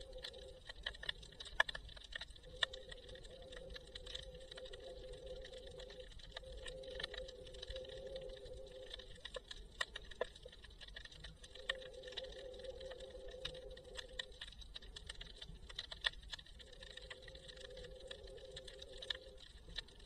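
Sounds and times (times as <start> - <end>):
low underwater rumble: 0.0 - 20.0
underwater clicks and ticks: 0.0 - 20.0.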